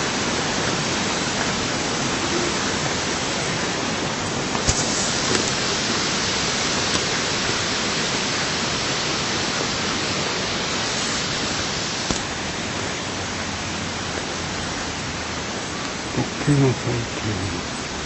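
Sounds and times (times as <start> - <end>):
water falling and flowing: 0.0 - 18.0.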